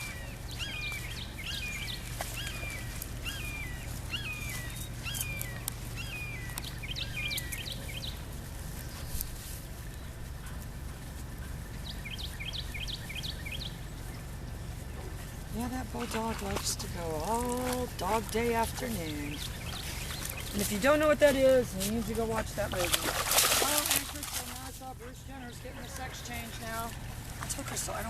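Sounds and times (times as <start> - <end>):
bird chirping: 0.0 - 23.0
steady low rumble: 0.0 - 28.0.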